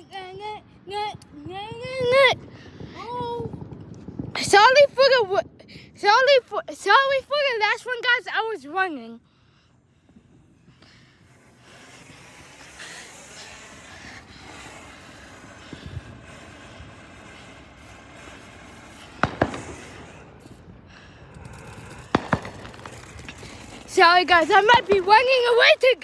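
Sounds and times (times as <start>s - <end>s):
fireworks bangs: 1.1s - 7.8s, 10.0s - 26.0s.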